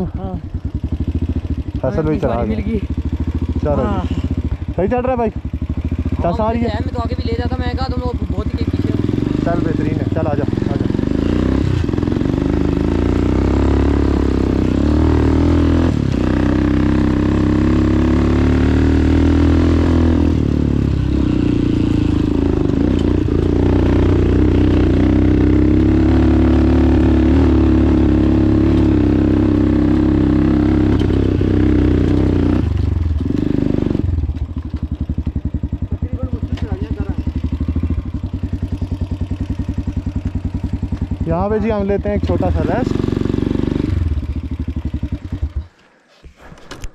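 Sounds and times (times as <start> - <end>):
dirt bike engine revving: 0.0 - 46.5.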